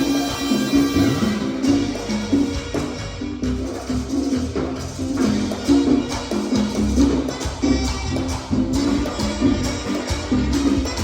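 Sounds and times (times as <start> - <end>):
band playing latin dance music: 0.0 - 11.0
busy percussion: 0.0 - 11.0
repeating bass line: 0.0 - 11.0.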